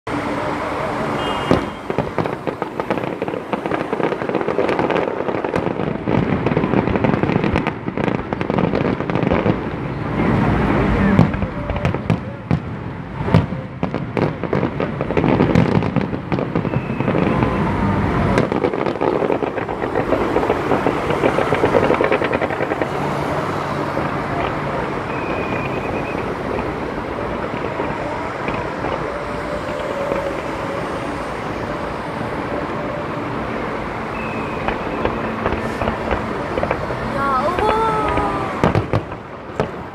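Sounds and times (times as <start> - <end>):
fireworks crackling and popping: 0.1 - 39.9.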